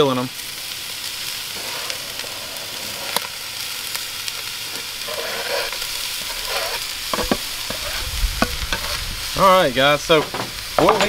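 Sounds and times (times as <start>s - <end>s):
onions sizzling in a pot: 0.0s - 11.0s.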